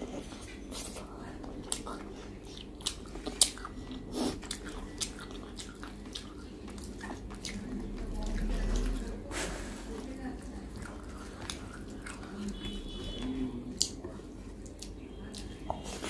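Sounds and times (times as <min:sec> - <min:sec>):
person chewing soft food: 0:00.0 - 0:09.3, 0:10.0 - 0:16.0.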